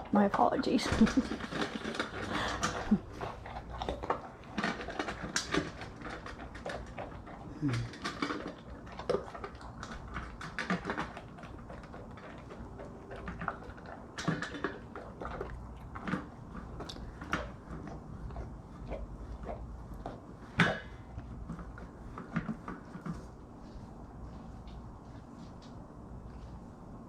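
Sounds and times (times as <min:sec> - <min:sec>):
dog crunching food: 0:00.0 - 0:26.6.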